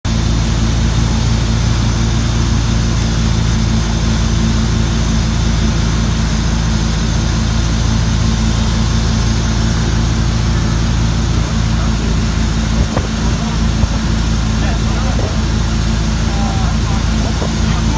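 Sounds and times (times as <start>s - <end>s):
boat engine running: 0.0s - 17.9s.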